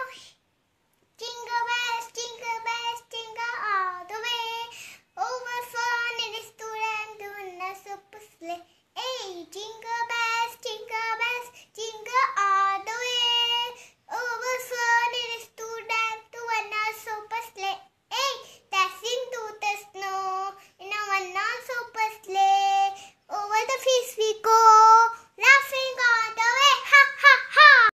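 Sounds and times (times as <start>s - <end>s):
girl singing a carol: 0.0s - 0.5s, 1.1s - 27.9s.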